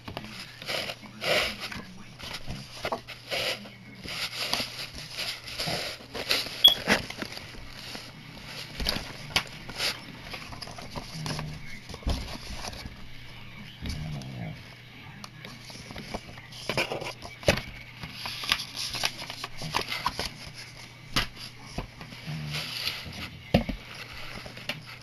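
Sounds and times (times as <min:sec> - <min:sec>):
cardboard rustling and scraping: 0:00.0 - 0:14.6, 0:15.4 - 0:25.0.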